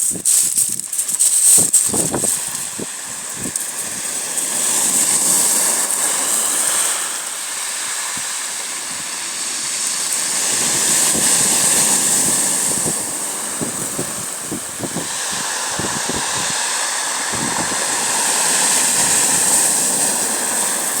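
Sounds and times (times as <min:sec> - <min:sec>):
waves washing onto shore: 0:00.0 - 0:21.0.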